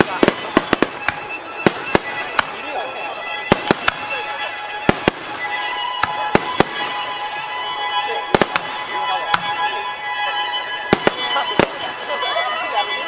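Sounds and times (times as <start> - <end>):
fireworks bursting: 0.0 - 13.0
music with held tones: 0.0 - 13.0.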